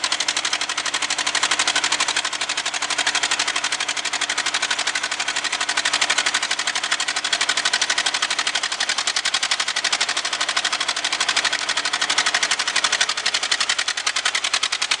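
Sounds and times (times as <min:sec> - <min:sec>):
paver engine running: 0:00.0 - 0:15.0.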